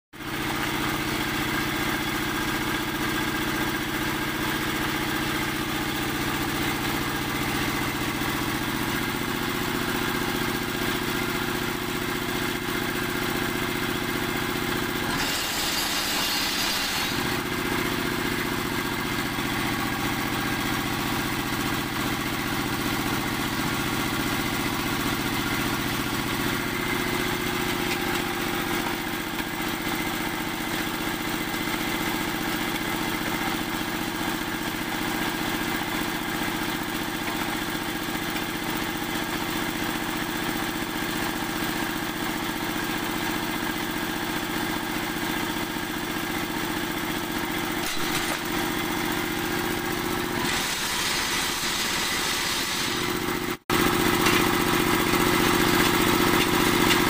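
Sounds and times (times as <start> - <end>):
small engine running: 0.2 - 57.0.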